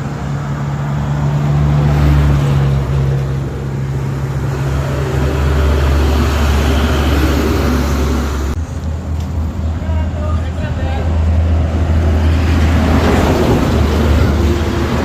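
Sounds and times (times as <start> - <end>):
car engine drone: 0.0 - 15.0
road noise hiss: 0.0 - 15.0.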